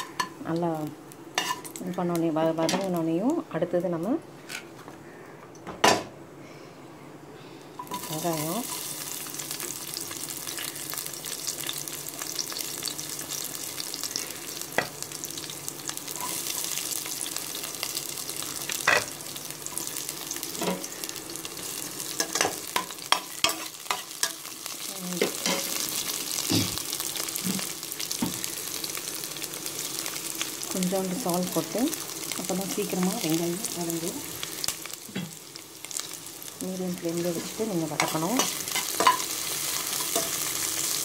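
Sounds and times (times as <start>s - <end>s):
onions sizzling in hot oil: 0.0s - 4.1s, 7.8s - 41.0s.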